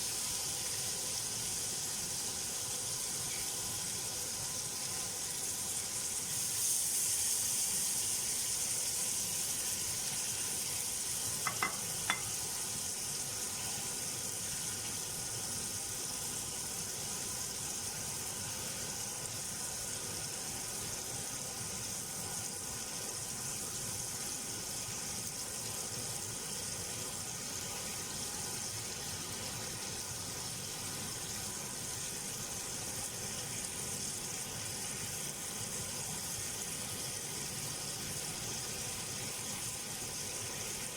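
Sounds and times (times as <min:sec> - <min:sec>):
food sizzling in a pan: 0:00.0 - 0:40.9.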